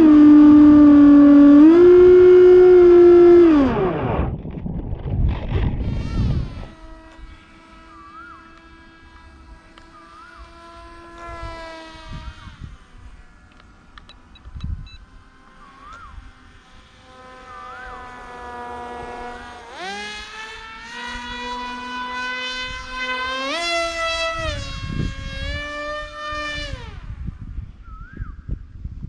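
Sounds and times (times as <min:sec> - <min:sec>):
electric motor and propeller whine: 0:00.0 - 0:29.0.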